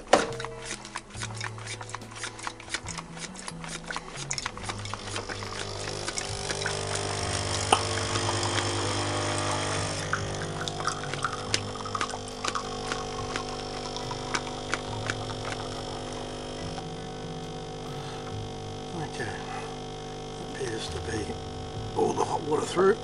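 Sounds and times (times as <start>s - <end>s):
coffee machine pump humming: 0.0s - 23.0s.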